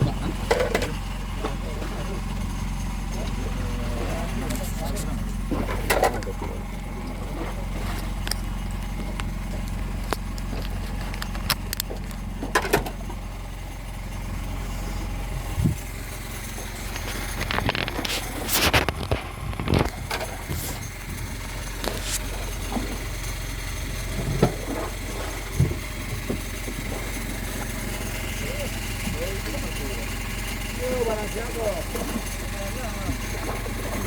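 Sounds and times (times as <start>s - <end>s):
low engine hum: 0.0s - 34.0s.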